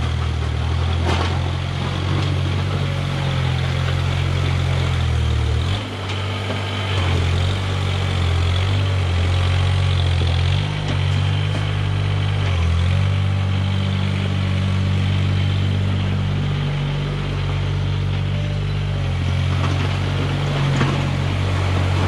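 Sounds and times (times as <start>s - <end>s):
snow-clearing machine engine: 0.0s - 22.0s.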